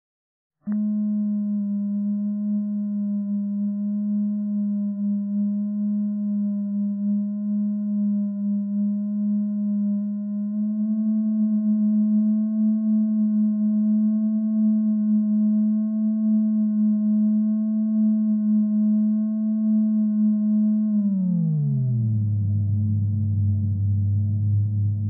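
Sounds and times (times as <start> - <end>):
synthesized drone tone: 0.6 - 25.0.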